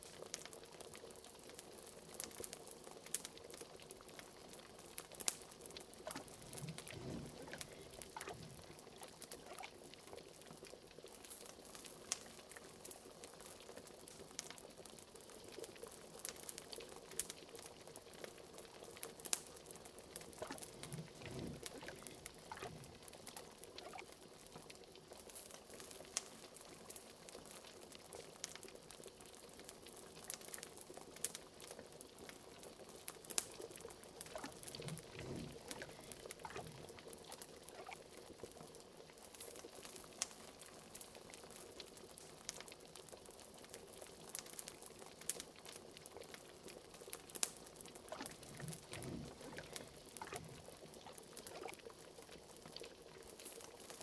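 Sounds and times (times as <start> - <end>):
fireplace crackling and popping: 0.0 - 54.0
liquid bubbling at a boil: 0.0 - 54.0.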